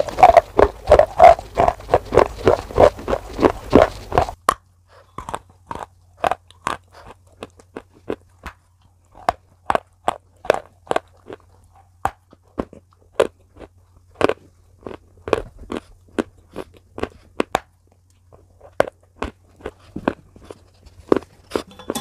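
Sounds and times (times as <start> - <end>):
crisp crunching and snapping: 0.0 - 21.3
faint low hum: 0.0 - 22.0.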